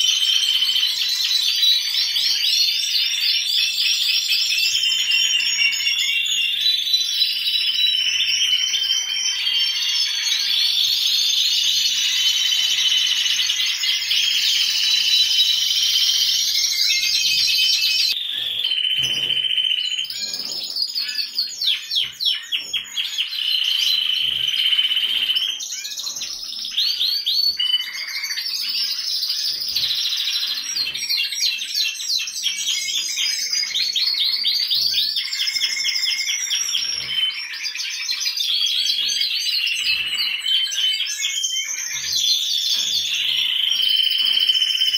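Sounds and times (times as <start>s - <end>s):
canaries trilling and chirping: 0.0s - 44.9s.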